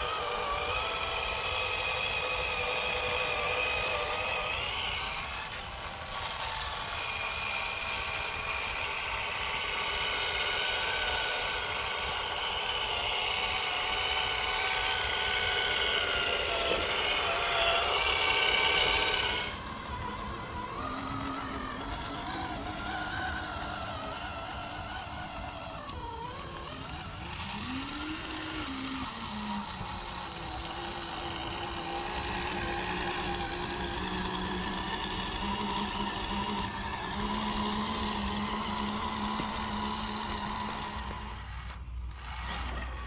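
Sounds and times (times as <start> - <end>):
rc car electric motor whining: 0.0 - 43.0.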